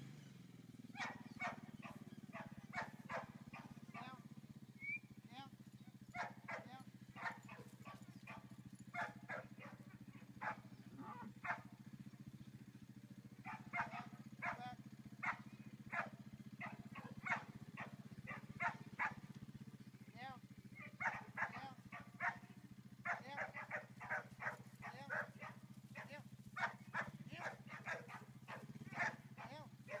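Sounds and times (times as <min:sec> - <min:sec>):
dog barking: 0:00.9 - 0:04.2, 0:06.1 - 0:11.8, 0:13.4 - 0:19.2, 0:20.8 - 0:30.0.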